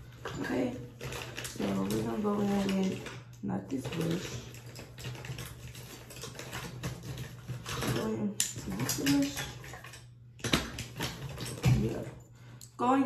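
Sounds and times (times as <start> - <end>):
cosmetic containers clattering: 0.0 - 12.2.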